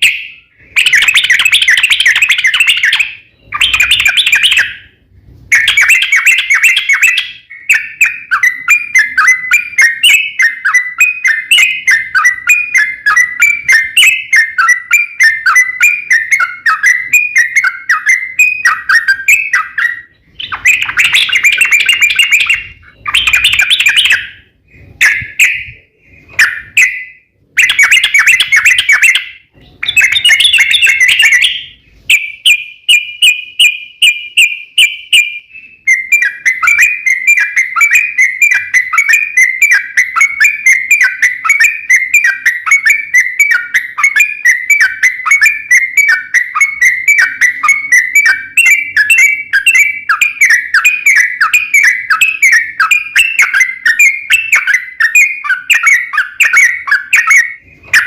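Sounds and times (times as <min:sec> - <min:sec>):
bulbul chattering song: 0:00.0 - 0:58.0.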